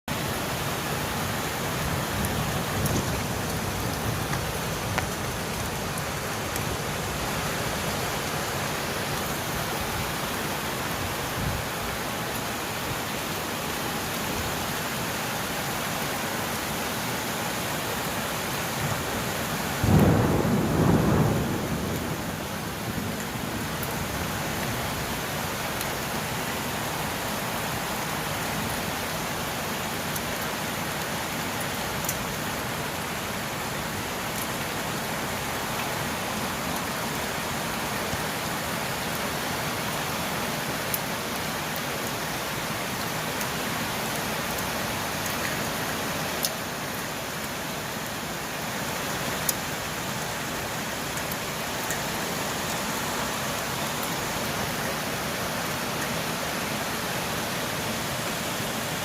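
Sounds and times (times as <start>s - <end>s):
steady rain falling: 0.1s - 59.0s.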